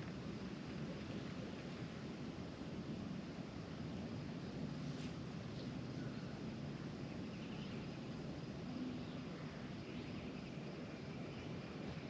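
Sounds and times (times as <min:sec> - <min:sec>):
low outdoor rush: 0:00.0 - 0:12.0.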